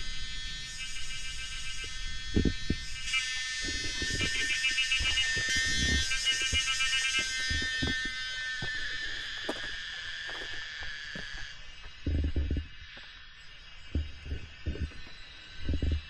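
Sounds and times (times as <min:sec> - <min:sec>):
buzzing insect chorus: 0:00.0 - 0:16.0.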